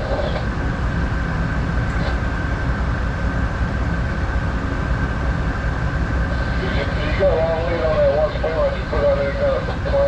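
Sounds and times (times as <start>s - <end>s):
diesel engines rumbling: 0.0s - 10.0s
faint high whine: 0.0s - 10.0s.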